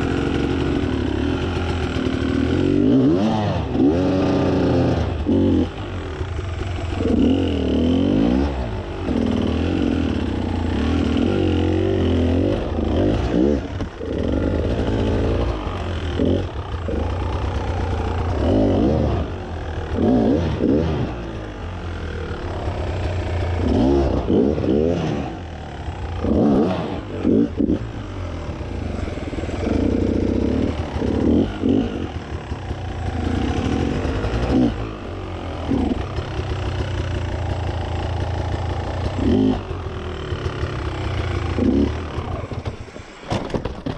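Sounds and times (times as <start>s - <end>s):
dirt bike engine revving: 0.0s - 43.3s.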